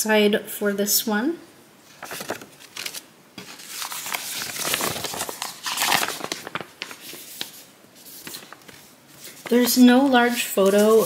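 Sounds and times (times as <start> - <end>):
paper rustling and crinkling: 1.9 - 11.0.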